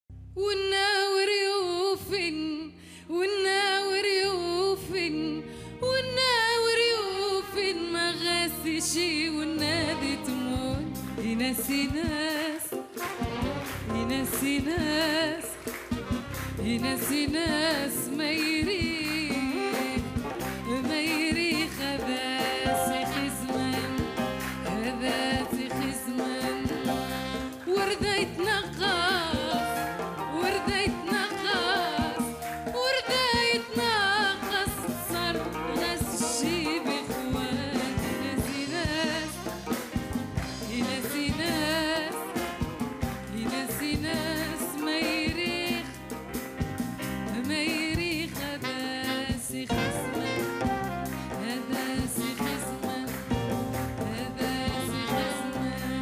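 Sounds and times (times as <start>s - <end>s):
instrumental accompaniment: 0.3s - 56.0s
woman singing with vibrato: 0.4s - 46.2s, 47.2s - 56.0s.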